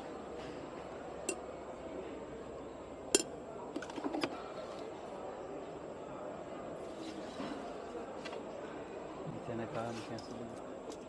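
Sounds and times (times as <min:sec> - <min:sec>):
background murmur: 0:00.0 - 0:11.0.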